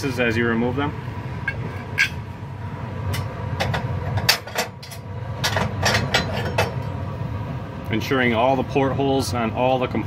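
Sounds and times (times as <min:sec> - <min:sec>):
exhaust blower humming: 0:00.0 - 0:10.0.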